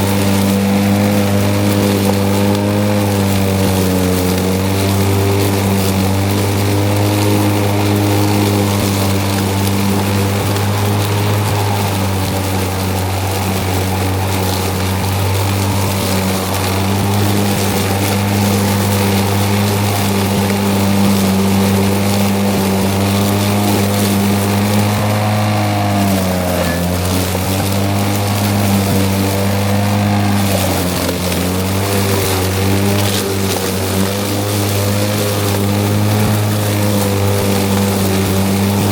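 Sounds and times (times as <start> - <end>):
electric lawn mower cutting grass: 0.0 - 38.9.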